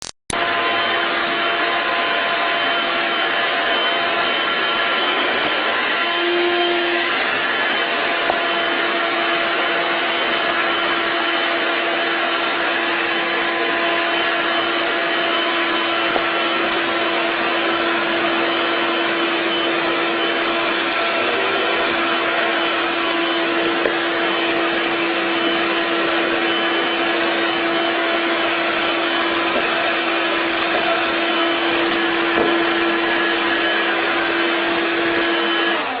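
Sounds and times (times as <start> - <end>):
vacuum cleaner running: 0.3 - 36.0.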